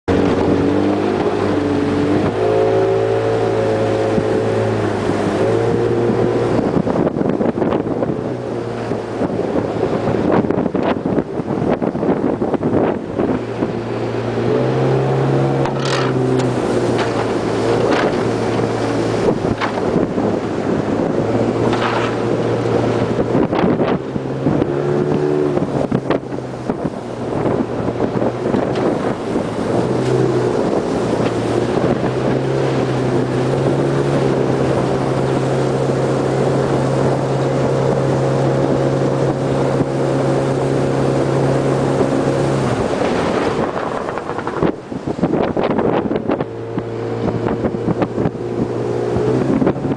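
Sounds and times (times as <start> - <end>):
motorboat engine running: 0.0 - 49.9
wind and water rushing: 0.0 - 49.9.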